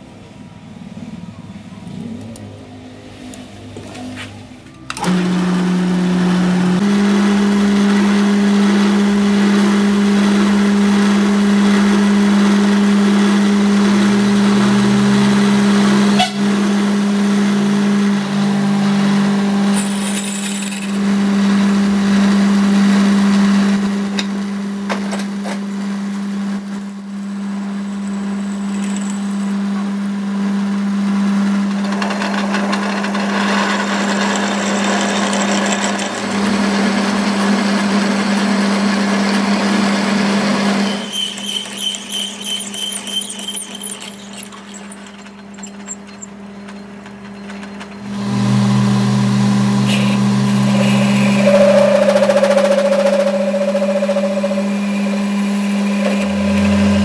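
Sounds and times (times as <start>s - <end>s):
machine motor humming: 4.7s - 24.4s, 25.6s - 57.0s.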